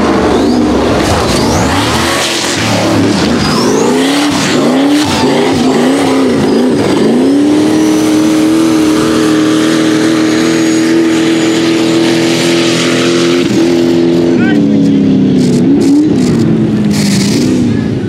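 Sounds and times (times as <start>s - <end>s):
buggy engine revving: 0.0s - 18.0s.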